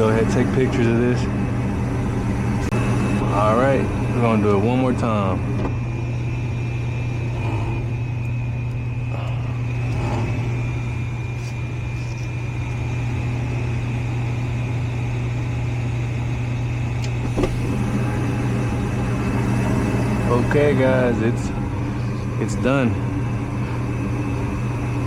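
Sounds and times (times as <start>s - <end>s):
furnace motor hum: 0.0s - 25.0s
thin high whine: 0.0s - 25.0s.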